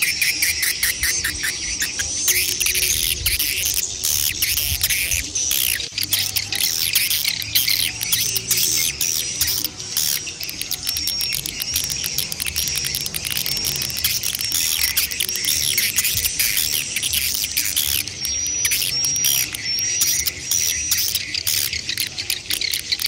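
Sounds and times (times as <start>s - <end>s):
swiftlets chirping chorus: 0.0s - 23.0s.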